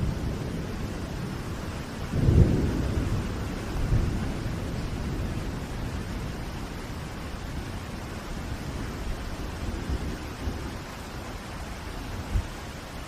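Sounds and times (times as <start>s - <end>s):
low rolling thunder: 0.0s - 12.8s
steady rain: 0.0s - 13.0s.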